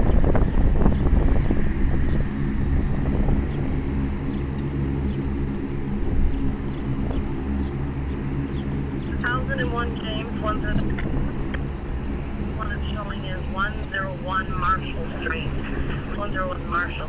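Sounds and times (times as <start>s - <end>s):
helicopter low drone: 0.0s - 17.0s.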